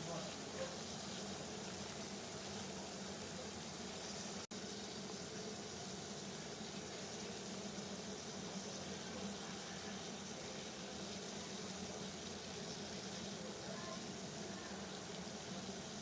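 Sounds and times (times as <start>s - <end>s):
water boiling: 0.0s - 16.0s.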